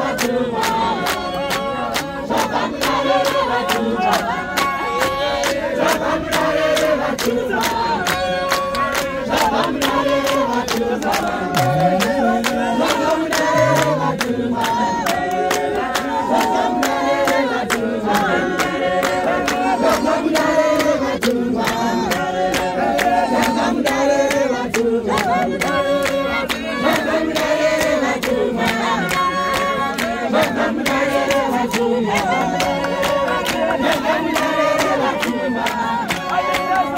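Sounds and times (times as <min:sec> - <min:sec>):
congregation singing: 0:00.0 - 0:36.9
rhythmic hand-clapping: 0:00.0 - 0:36.9.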